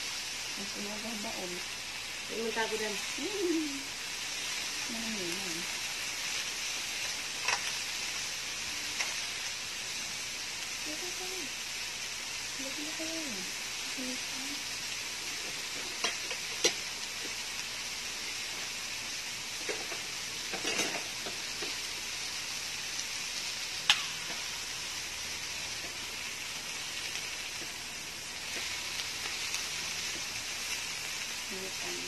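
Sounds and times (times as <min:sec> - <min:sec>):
meat sizzling on a grill pan: 0:00.0 - 0:32.0.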